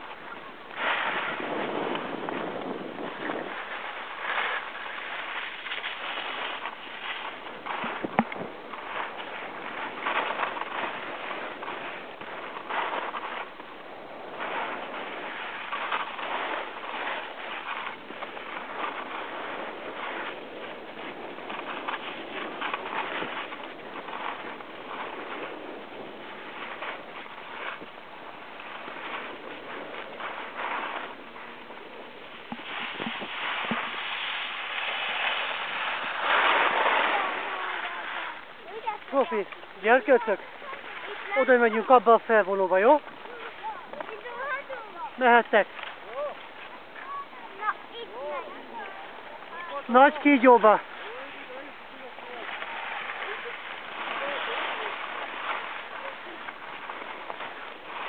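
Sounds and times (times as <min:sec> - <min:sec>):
skis scraping over snow: 0:00.0 - 0:58.0.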